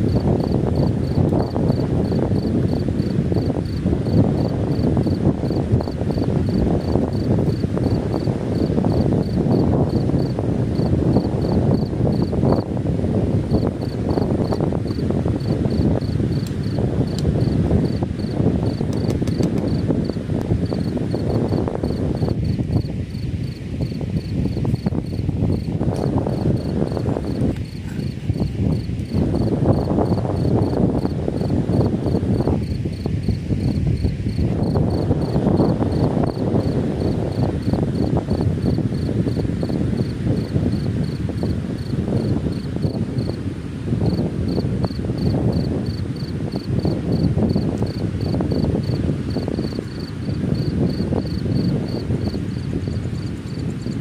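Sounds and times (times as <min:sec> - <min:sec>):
cricket chirping: 0:00.0 - 0:12.8, 0:13.5 - 0:54.0
strong wind gusting: 0:00.0 - 0:54.0.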